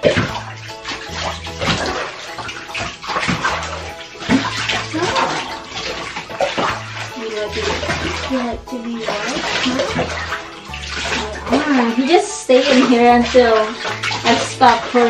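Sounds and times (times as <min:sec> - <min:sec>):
background music with bass line: 0:00.0 - 0:14.7
water splashing over a cat: 0:00.0 - 0:15.0.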